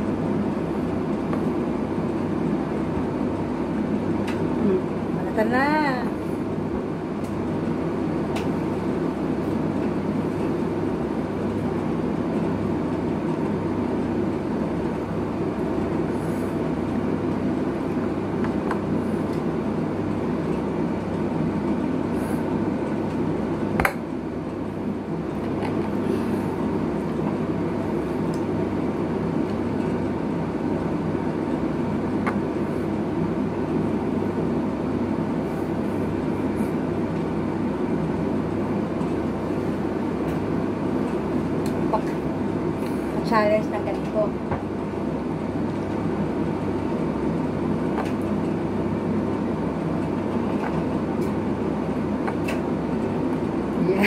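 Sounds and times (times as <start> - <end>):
low mechanical rumble and hum: 0.0 - 54.0.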